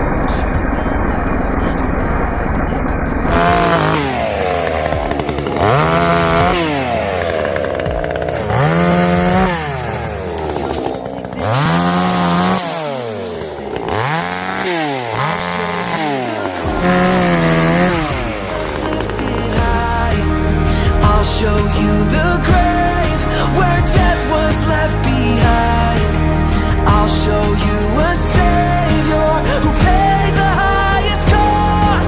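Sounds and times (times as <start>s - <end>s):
chainsaw revving cutting wood: 3.2s - 32.0s.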